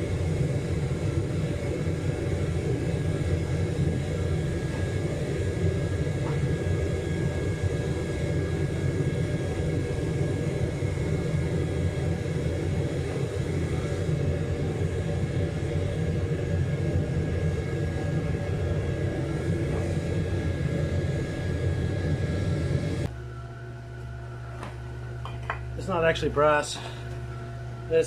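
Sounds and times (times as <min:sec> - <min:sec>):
faint steady whine: 0:00.0 - 0:28.0
furnace burner roaring: 0:00.0 - 0:28.0.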